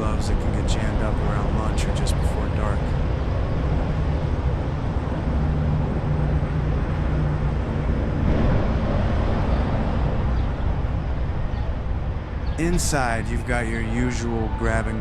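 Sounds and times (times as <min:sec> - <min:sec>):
low hum: 0:00.0 - 0:15.0
traffic rumble: 0:00.0 - 0:15.0.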